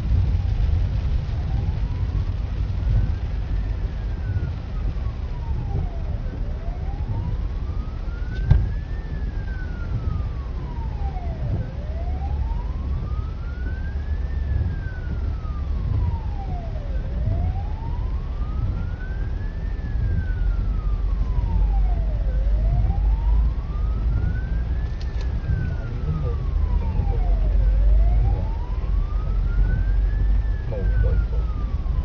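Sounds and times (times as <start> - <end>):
ambulance siren wailing: 0.0 - 32.0.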